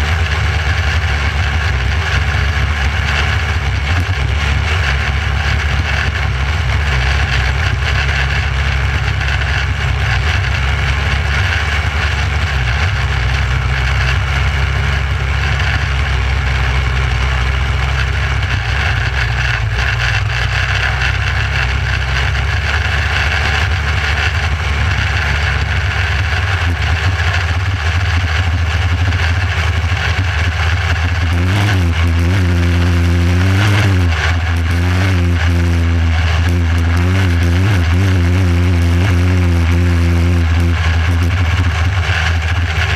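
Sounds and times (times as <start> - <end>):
racing car engine running hard: 0.0 - 42.9.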